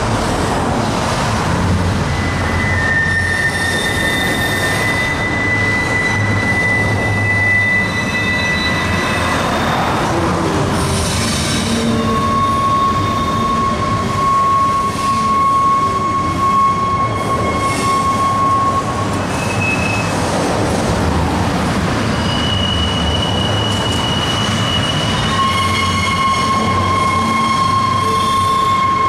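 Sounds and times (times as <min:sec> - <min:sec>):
train wheels rumbling on rail: 0:00.0 - 0:29.0
high wheel squeals: 0:01.9 - 0:20.4, 0:21.9 - 0:29.0.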